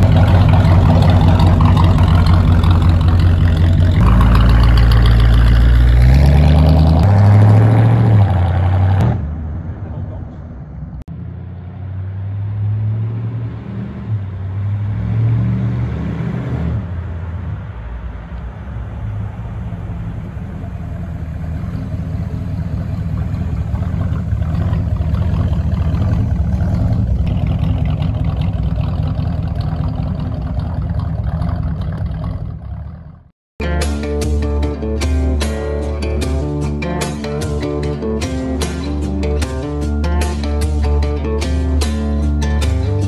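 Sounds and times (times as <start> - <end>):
car engine drone: 0.0 - 43.0.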